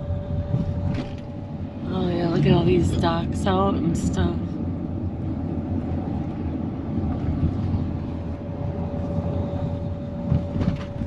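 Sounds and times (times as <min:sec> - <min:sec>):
steady whine: 0:00.0 - 0:11.0
vehicle road noise rumble: 0:00.0 - 0:11.0.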